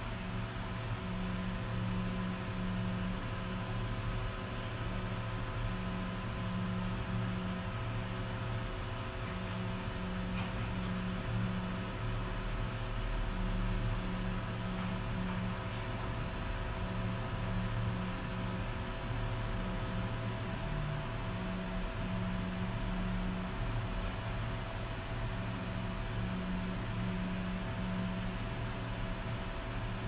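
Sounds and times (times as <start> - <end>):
steady hum and hiss: 0.0 - 30.0.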